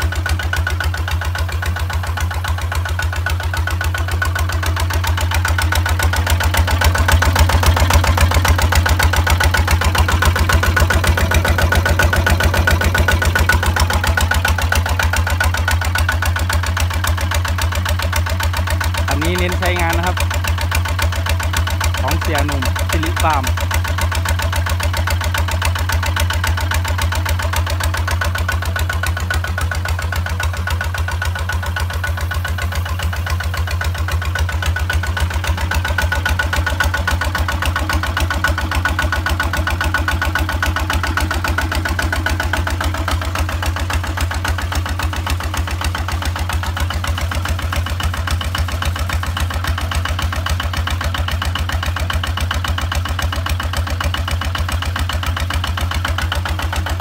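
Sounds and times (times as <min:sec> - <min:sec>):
single-cylinder diesel engine running: 0:00.0 - 0:57.0.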